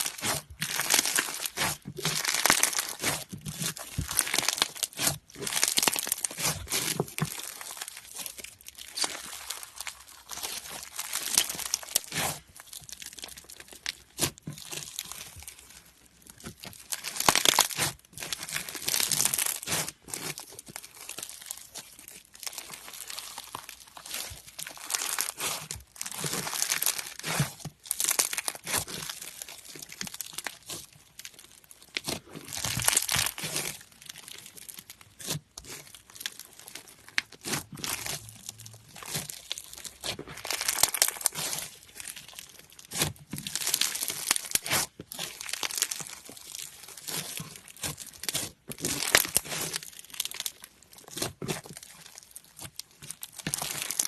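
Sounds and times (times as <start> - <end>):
slime squeezed crackling and popping: 0.0 - 54.0.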